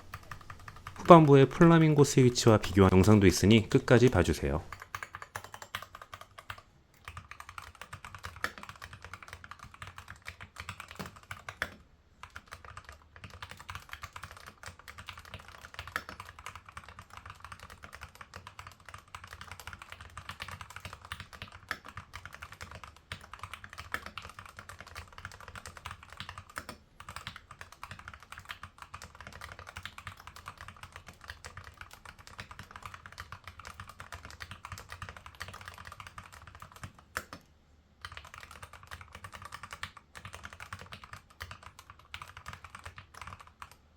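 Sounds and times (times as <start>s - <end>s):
mechanical keyboard typing: 0.0s - 43.8s.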